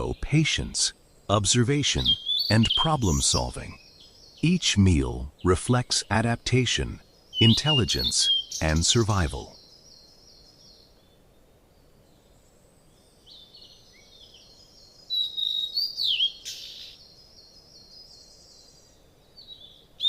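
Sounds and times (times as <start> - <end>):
faint outdoor background: 0.0 - 20.0
small birds chirping: 0.0 - 20.0.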